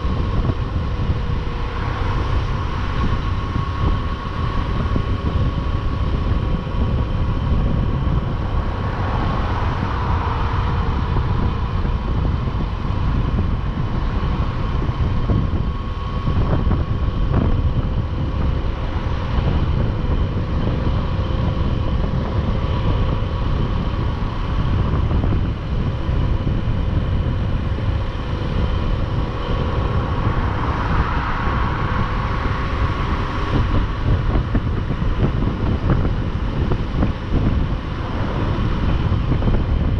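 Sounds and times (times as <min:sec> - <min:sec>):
road and wind rush: 0:00.0 - 0:39.9
steady whine: 0:00.0 - 0:39.9.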